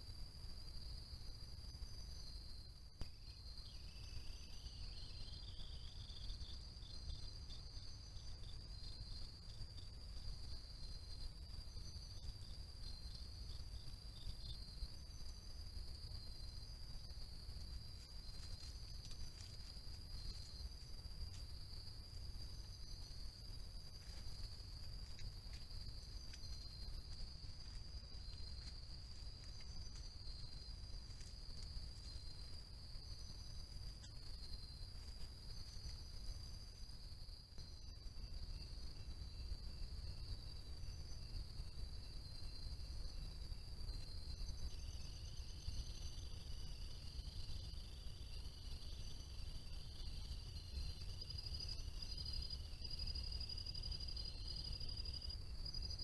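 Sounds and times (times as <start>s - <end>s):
crickets trilling: 0.0s - 56.0s
faint low rumble: 0.0s - 56.0s
lower pulsing insect call: 0.0s - 56.0s.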